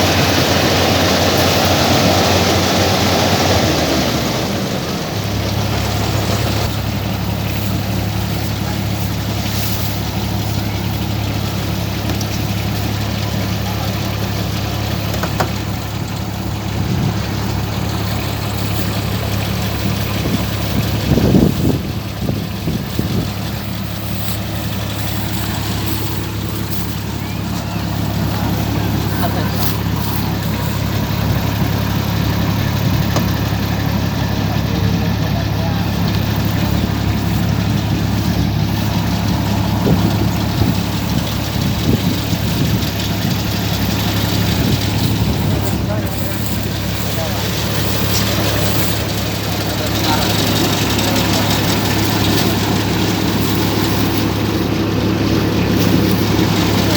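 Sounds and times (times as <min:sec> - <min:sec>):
combine harvester diesel engine: 0:00.0 - 0:56.9.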